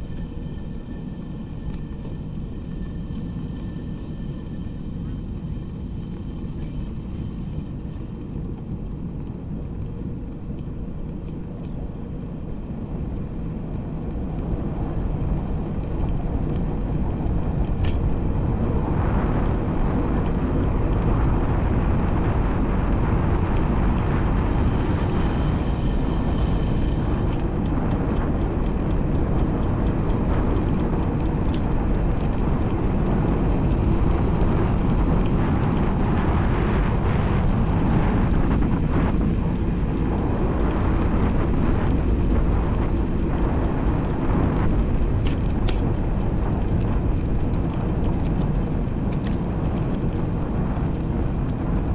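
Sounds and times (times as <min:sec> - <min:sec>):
low rolling rumble: 0:00.0 - 0:51.9
wind buffeting microphone: 0:00.0 - 0:51.9.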